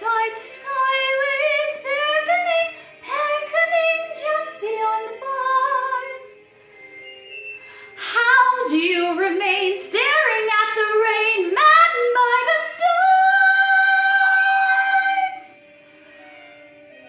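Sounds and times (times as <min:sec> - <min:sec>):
woman singing: 0:00.0 - 0:06.4, 0:08.0 - 0:15.6.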